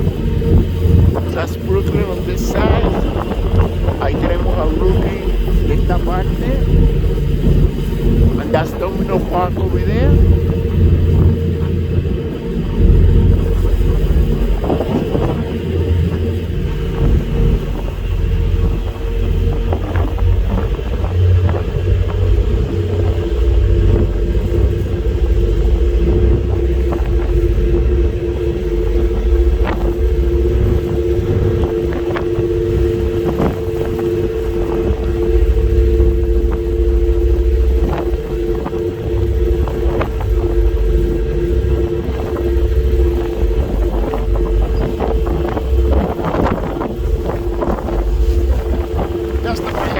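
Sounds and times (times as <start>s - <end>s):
ferry engines droning: 0.0s - 49.9s
wind rumble on microphone: 0.0s - 49.9s.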